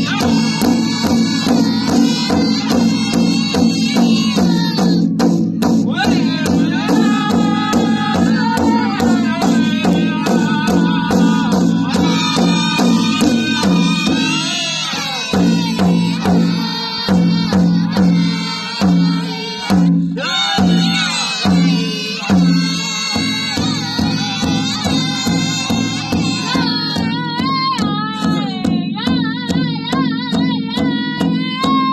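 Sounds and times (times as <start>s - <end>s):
group singing with high voices: 0.0s - 31.9s
hand drum beat: 0.0s - 31.9s.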